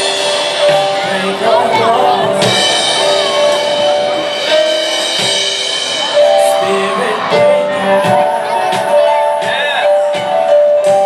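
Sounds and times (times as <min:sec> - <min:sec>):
drum kit: 0:00.0 - 0:11.0
gospel band playing: 0:00.0 - 0:11.0
piano chords: 0:00.0 - 0:11.0.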